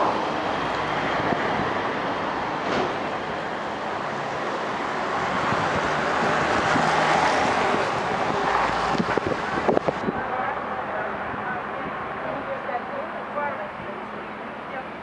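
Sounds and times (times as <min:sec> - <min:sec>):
vehicle passing: 0:00.0 - 0:14.4.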